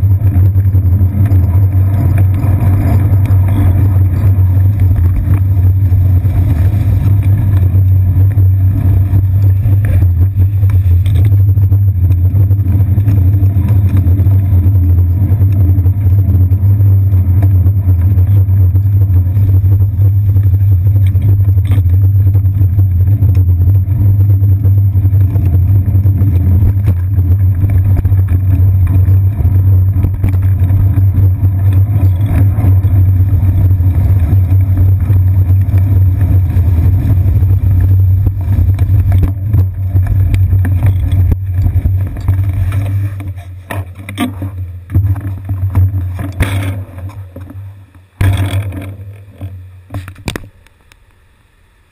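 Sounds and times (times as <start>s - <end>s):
wind and road rumble: 0.0s - 51.9s.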